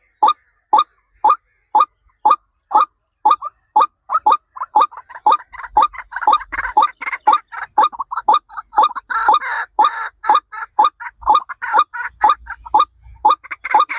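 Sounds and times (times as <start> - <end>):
birds clucking calls: 0.0 - 13.9
harsh bird calls: 0.0 - 13.9.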